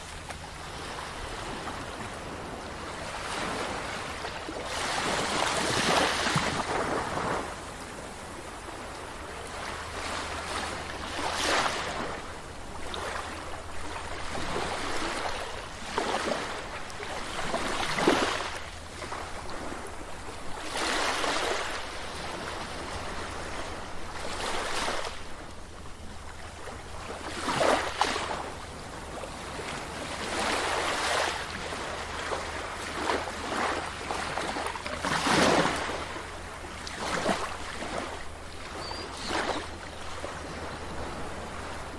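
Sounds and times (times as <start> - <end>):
sea waves breaking on beach: 0.0 - 41.9.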